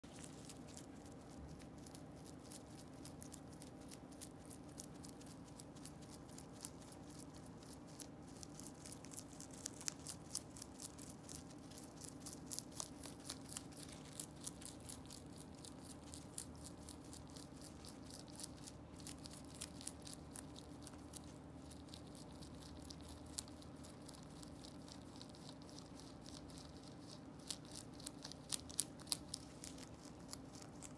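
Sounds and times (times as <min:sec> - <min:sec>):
rabbit chewing leaves: 0:00.0 - 0:30.9.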